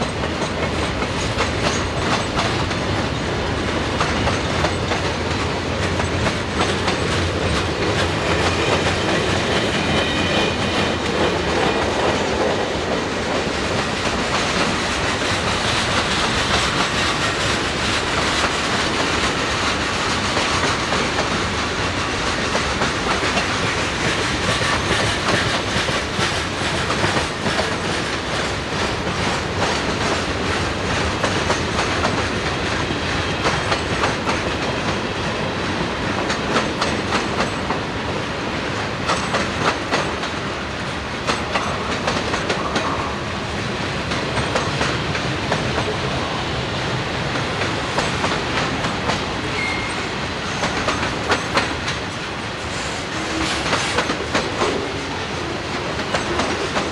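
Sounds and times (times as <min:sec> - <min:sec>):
freight train rumble: 0:00.0 - 0:56.9
train wheels clickety-clack: 0:00.0 - 0:56.9.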